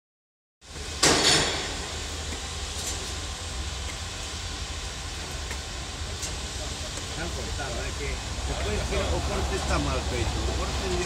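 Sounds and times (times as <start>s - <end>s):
machinery low rumble: 0.6s - 11.0s
hiss: 0.7s - 11.0s.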